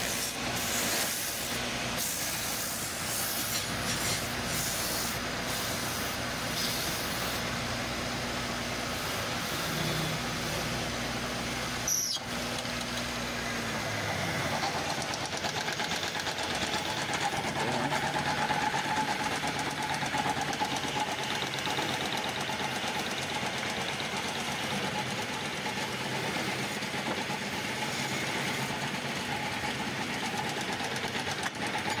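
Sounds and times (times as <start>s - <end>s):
woodworking lathe humming: 6.4s - 32.0s.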